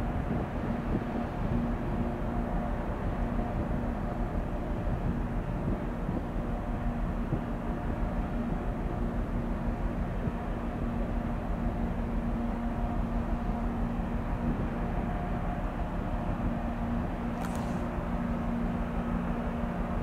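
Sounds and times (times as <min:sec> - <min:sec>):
ship engines droning: 0:00.0 - 0:20.0.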